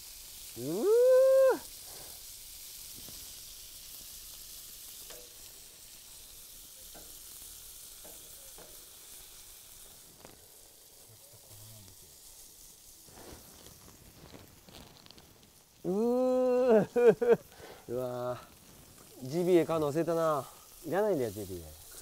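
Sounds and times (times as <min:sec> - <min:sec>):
meat sizzling on griddle: 0:00.0 - 0:22.0.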